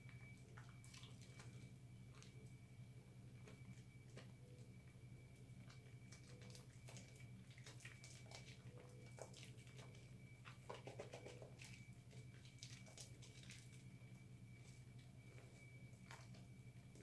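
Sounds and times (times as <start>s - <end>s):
soapy hands squishing: 0.0s - 2.6s, 3.4s - 17.0s.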